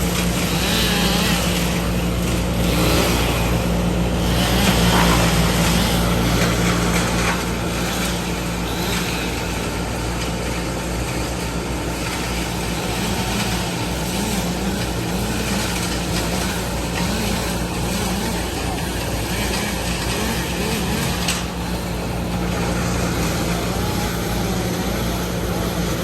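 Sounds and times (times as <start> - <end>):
large engine running: 0.0 - 26.0.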